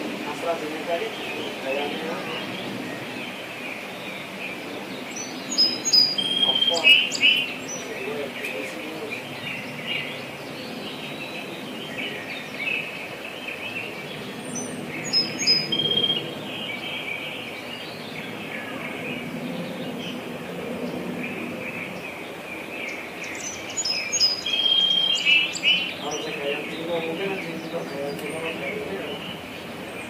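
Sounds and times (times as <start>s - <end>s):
songbird chirping and trilling: 0.0s - 30.0s.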